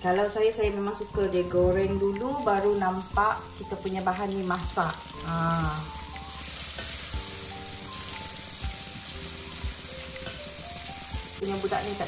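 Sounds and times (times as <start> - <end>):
food sizzling in a pan: 0.0 - 12.0
soft background music: 0.0 - 12.0.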